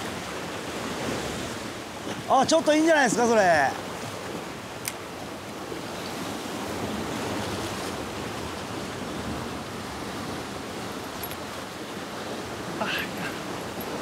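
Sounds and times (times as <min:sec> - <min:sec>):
surf washing against rocks: 0:00.0 - 0:14.0.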